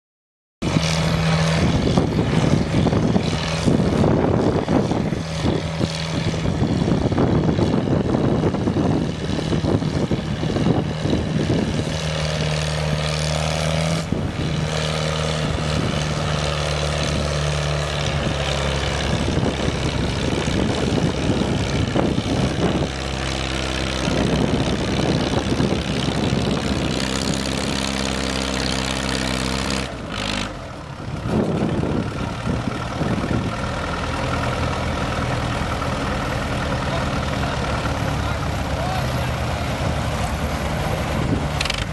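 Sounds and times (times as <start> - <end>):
tractor diesel engine running: 0.6 - 41.9.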